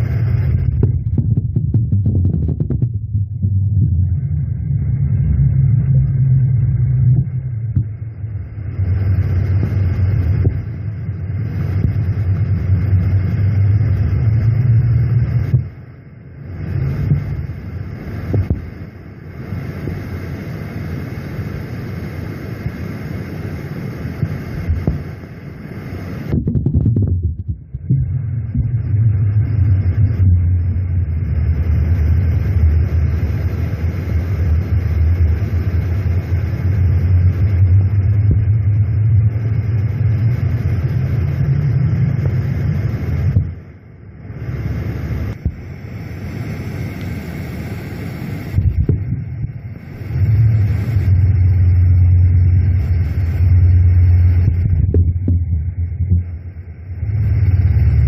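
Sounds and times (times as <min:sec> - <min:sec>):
low steady underground rumble: 0:00.0 - 0:58.0.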